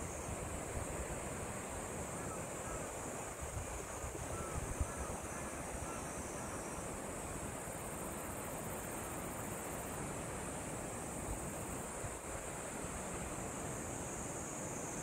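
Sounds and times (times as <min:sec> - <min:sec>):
insects droning: 0:00.0 - 0:15.0
wind through trees: 0:00.0 - 0:15.0.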